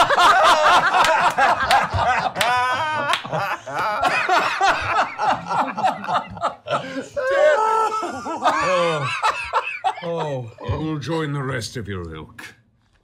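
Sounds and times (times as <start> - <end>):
group of people laughing: 0.0 - 10.7.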